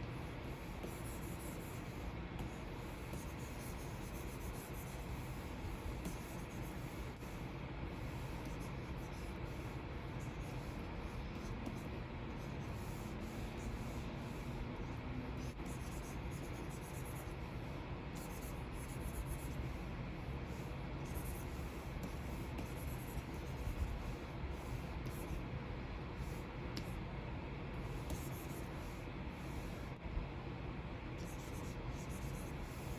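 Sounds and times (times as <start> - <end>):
background hiss and hum: 0.0 - 32.9
stylus scratching on screen: 0.3 - 25.5, 27.8 - 30.0, 31.2 - 32.9.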